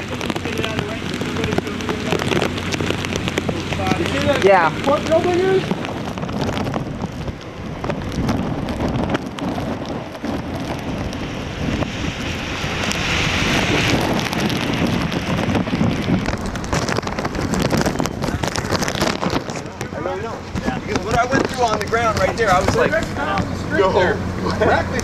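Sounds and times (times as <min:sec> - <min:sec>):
crackling: 0:00.0 - 0:25.0
gusty wind buffeting microphone: 0:00.0 - 0:25.0
rain hissing: 0:00.0 - 0:25.0.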